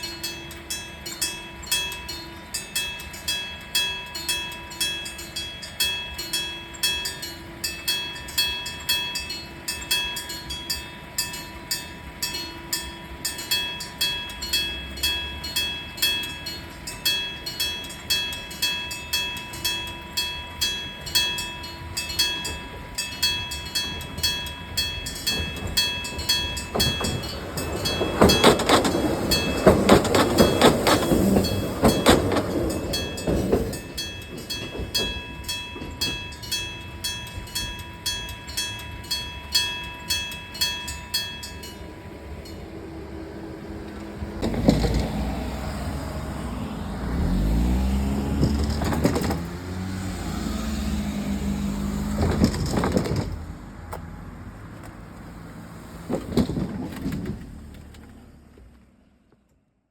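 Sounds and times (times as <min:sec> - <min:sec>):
railway crossing bell ringing: 0:00.0 - 0:52.2
train rumble and wheel clatter: 0:00.0 - 0:59.0.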